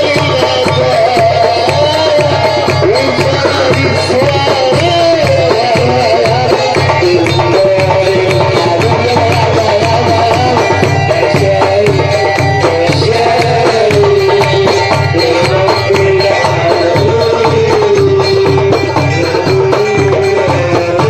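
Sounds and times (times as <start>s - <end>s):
hand drum beat: 0.0s - 21.0s
wavering instrumental melody: 0.0s - 21.0s.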